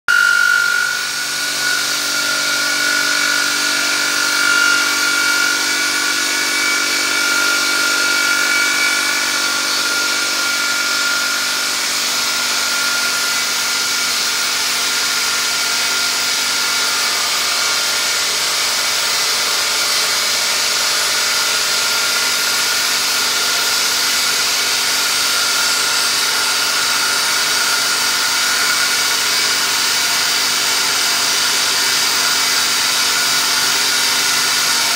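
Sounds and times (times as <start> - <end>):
milling cutter hissing and whining: 0.1 - 34.9.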